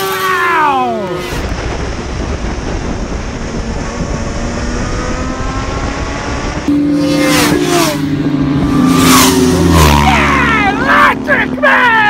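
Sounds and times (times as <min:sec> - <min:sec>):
motorbike engine rising in pitch: 0:00.0 - 0:12.0
superbikes racing past: 0:00.0 - 0:12.0
wind and road noise: 0:00.0 - 0:12.0.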